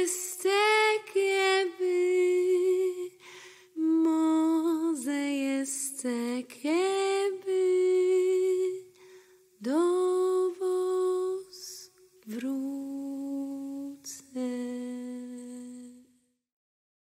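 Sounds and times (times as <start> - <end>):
woman singing unaccompanied: 0.0 - 16.2.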